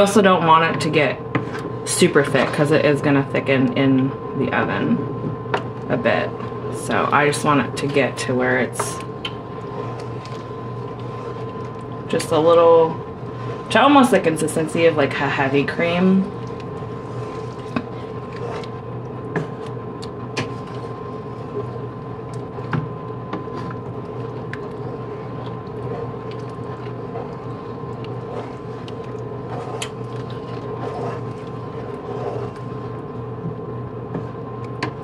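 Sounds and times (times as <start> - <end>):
machine hum: 0.0 - 35.0
wooden spoon stirring sauce: 6.3 - 35.0.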